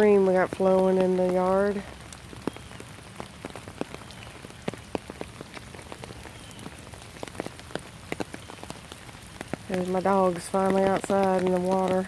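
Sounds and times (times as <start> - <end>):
rain drops pattering: 0.0 - 12.0.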